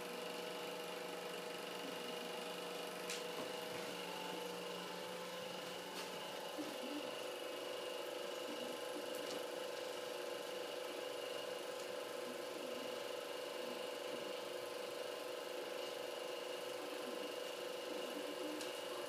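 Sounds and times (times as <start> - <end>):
film projector whirring: 0.0 - 19.0.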